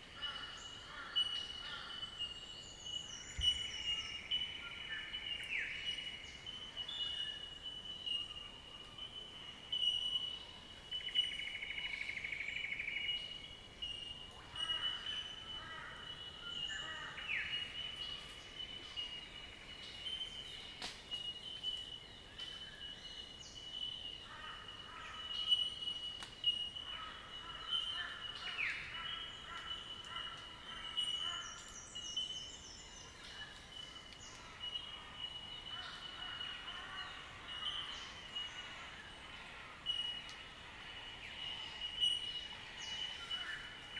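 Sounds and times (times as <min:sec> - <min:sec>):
birds calling: 0:00.0 - 0:43.9.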